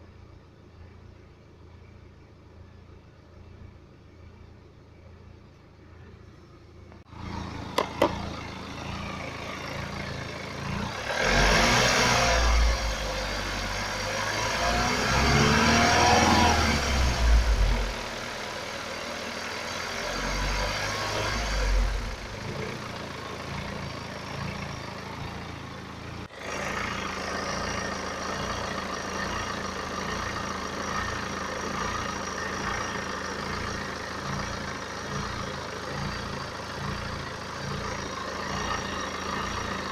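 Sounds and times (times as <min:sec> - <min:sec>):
diesel engine running: 0:01.8 - 0:39.9.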